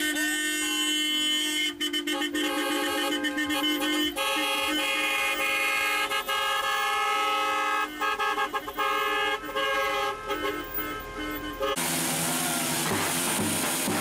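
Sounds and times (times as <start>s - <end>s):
car horns honking: 0.0s - 14.0s.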